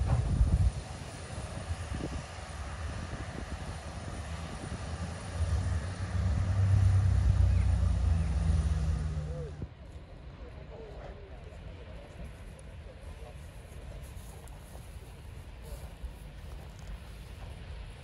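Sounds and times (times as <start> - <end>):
low engine drone: 0.0 - 18.0
low rumble: 0.0 - 18.0
steam locomotive exhaust beats: 0.0 - 18.0.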